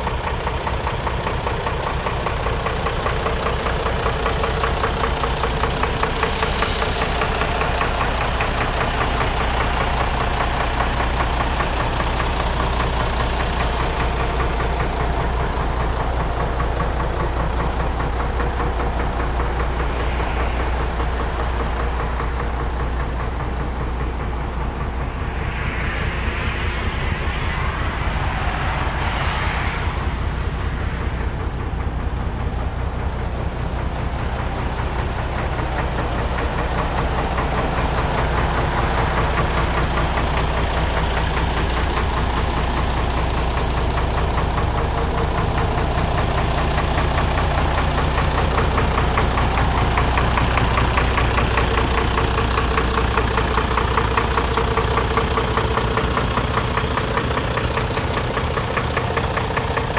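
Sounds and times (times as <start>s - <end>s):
diesel truck engine idling: 0.0s - 27.0s, 30.0s - 59.9s.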